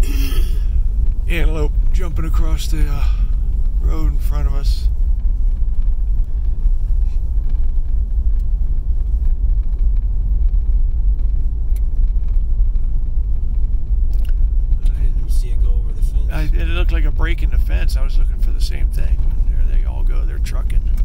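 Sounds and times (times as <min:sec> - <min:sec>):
vehicle rumbling on gravel road: 0:00.0 - 0:21.0.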